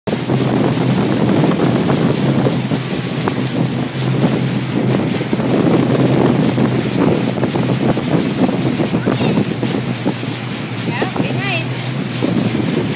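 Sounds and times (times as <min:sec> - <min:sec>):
boat engine drone: 0:00.1 - 0:12.9
water rushing from hull: 0:00.1 - 0:12.9
wind buffeting microphone: 0:00.1 - 0:12.9.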